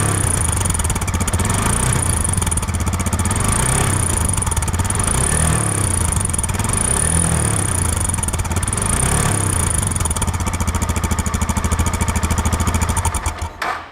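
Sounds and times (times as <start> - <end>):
engine idling with exhaust noise: 0.0 - 13.8.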